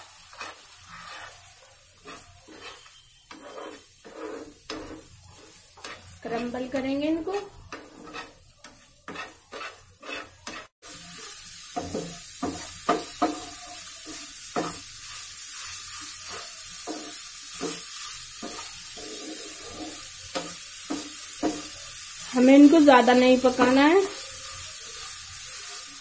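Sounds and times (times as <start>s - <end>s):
egg whites sizzling in a frying pan: 0.0s - 26.0s
spatula scraping a pan: 0.0s - 26.0s.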